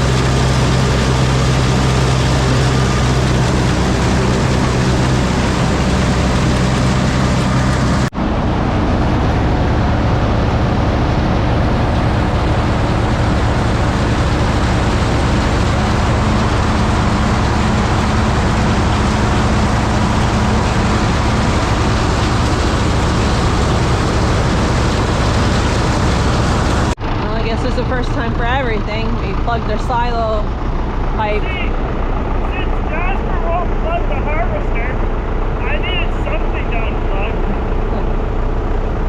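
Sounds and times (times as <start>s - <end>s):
tractor engine and farm machinery: 0.0s - 39.0s.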